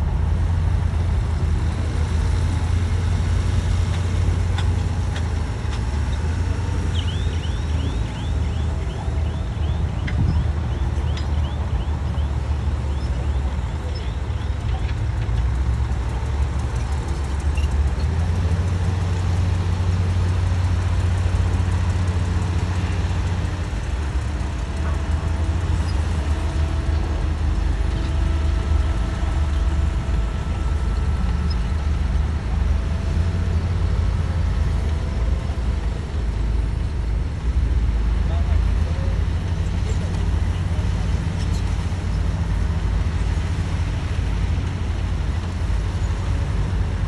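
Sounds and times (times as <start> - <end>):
faint steady whines: 0.0 - 47.0
heavy diesel machinery rumbling: 0.0 - 47.0.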